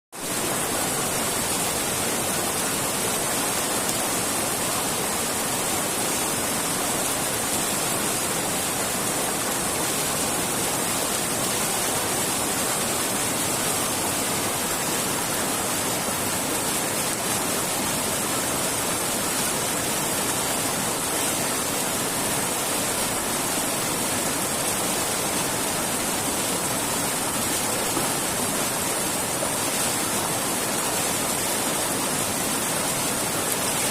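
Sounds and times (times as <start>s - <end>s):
running water rushing: 0.2s - 33.9s.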